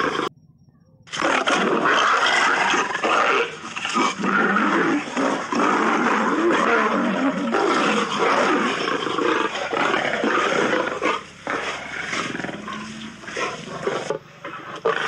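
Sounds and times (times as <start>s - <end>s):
lions roaring while fighting: 1.1s - 15.0s.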